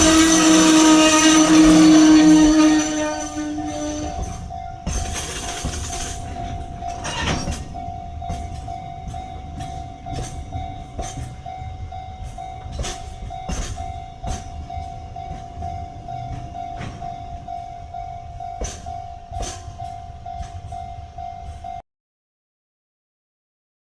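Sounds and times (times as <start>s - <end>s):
freight train rumble: 0.0s - 21.8s
steady high tone: 0.0s - 21.8s
train wheels clacking on rails: 0.0s - 21.8s.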